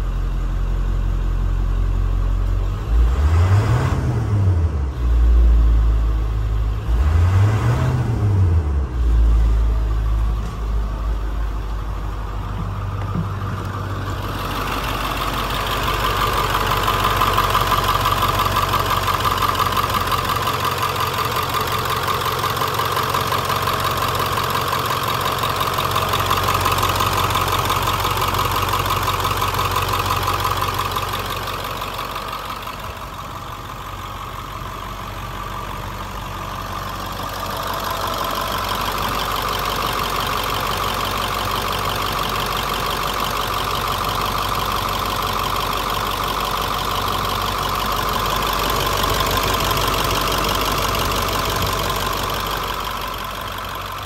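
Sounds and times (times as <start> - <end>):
diesel engine idling: 0.0 - 3.5, 4.2 - 54.0.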